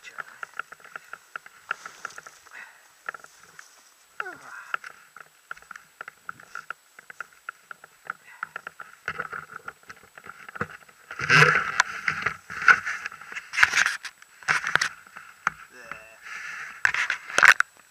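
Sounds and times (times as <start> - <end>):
rustling on dry grass: 0.0 - 17.5.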